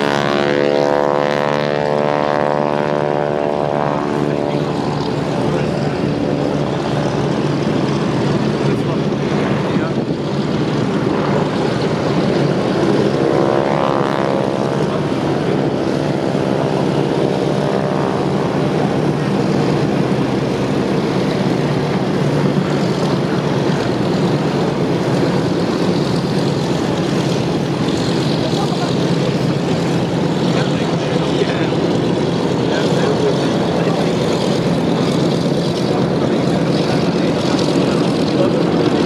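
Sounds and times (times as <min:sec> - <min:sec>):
aircraft piston engines and propellers: 0:00.0 - 0:39.0.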